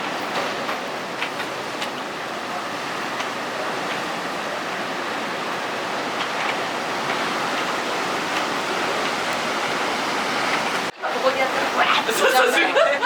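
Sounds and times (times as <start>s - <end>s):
heavy surf breaking waves: 0.0s - 13.0s.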